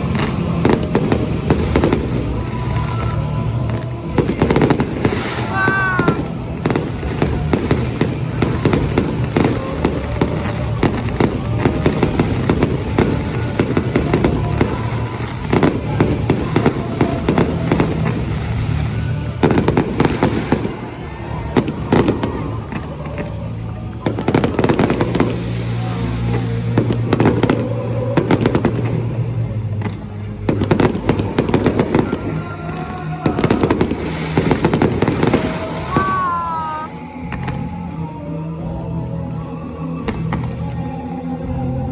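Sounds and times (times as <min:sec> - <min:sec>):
fireworks crackling and banging: 0:00.0 - 0:38.8, 0:39.6 - 0:41.9
music playing: 0:00.0 - 0:41.9.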